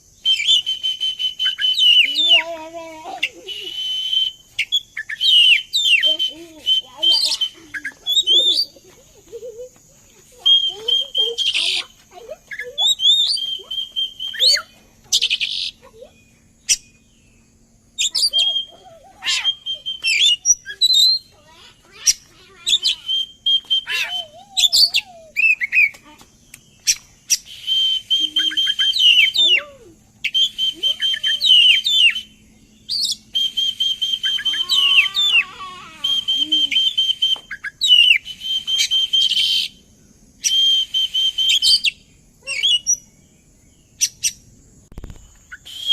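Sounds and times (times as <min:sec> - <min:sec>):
bird singing whistles and trills: 0:00.0 - 0:09.6, 0:10.2 - 0:45.9.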